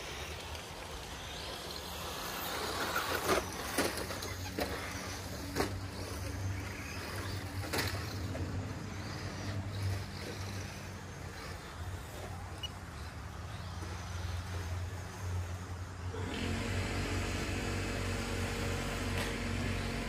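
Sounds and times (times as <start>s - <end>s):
electric rc cars running on dirt: 0.0s - 20.0s.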